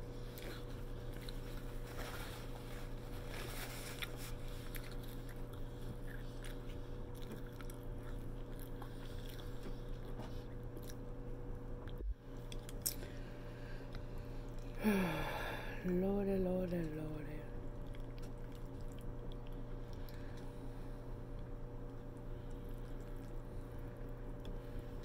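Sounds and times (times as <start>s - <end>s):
person chewing food: 0.0s - 14.8s, 17.6s - 25.0s
steady low hum: 0.0s - 25.0s.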